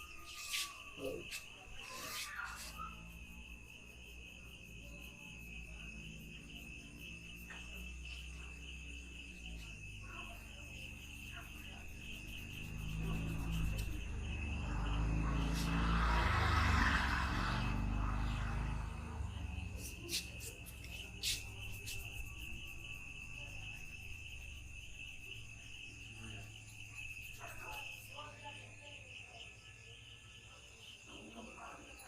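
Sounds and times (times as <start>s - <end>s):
cricket trilling: 0.0s - 32.0s.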